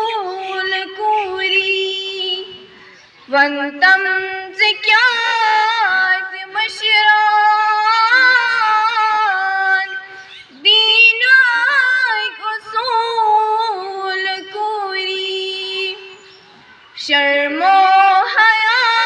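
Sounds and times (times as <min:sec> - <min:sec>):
girl singing unaccompanied: 0:00.0 - 0:02.7, 0:03.3 - 0:16.4, 0:17.0 - 0:19.0.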